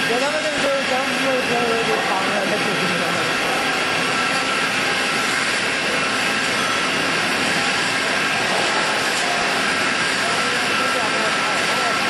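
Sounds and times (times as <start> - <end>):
faint steady whine: 0.0 - 12.0
machinery hiss and hum: 0.0 - 12.0.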